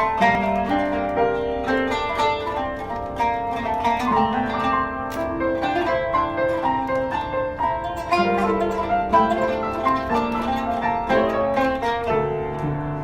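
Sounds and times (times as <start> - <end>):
plucked zither notes: 0.0 - 13.0.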